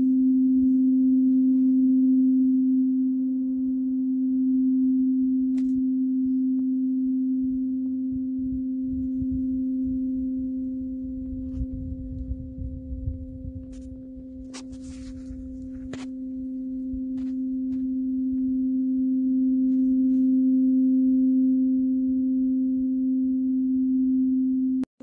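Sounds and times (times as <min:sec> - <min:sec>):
tuning fork ringing: 0:00.0 - 0:24.9.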